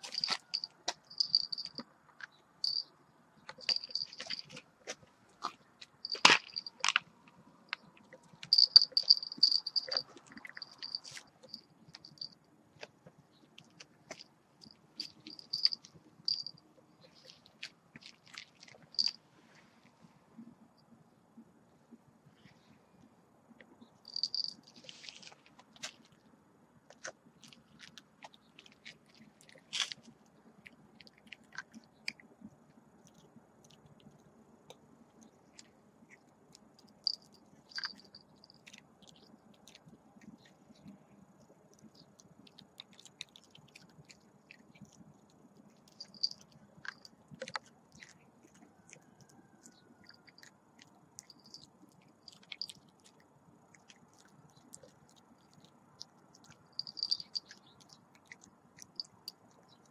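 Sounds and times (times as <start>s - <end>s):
puppy teeth crunching on stone: 0.0s - 2.9s, 3.5s - 7.1s, 7.7s - 19.2s, 26.9s - 32.3s, 33.0s - 59.9s.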